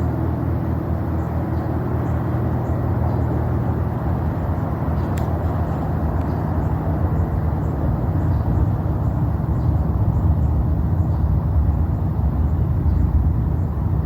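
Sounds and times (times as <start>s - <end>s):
distant rocket engine rumble: 0.0s - 14.0s.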